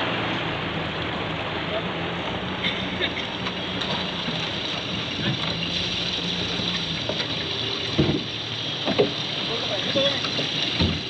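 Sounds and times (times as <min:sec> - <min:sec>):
water and spray rushing around boat: 0:00.0 - 0:11.0.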